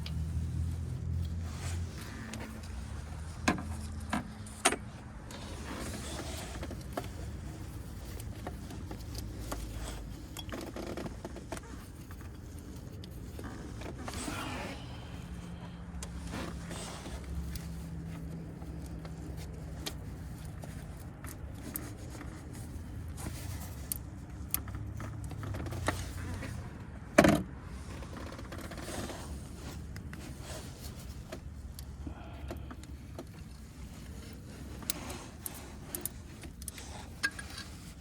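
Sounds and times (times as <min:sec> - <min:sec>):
small metallic clicks and scrapes: 0:00.0 - 0:14.6, 0:15.2 - 0:38.0.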